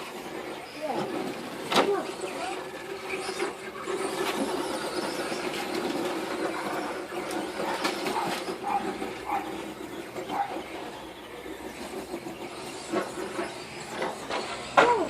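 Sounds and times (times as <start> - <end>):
radio-controlled car motor hum: 0.0 - 15.0.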